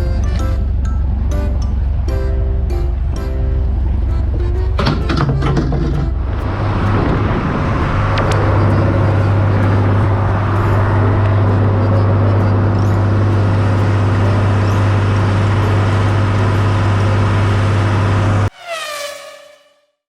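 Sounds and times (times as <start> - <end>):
boat engine humming: 0.0 - 18.7.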